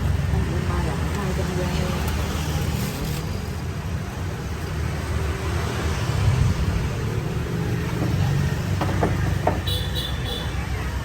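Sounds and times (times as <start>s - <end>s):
low rumble of street traffic: 0.0s - 11.0s.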